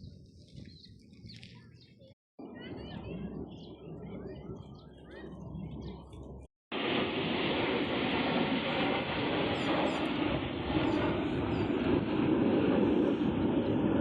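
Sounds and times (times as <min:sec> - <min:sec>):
aircraft engine rushing: 0:02.4 - 0:14.0.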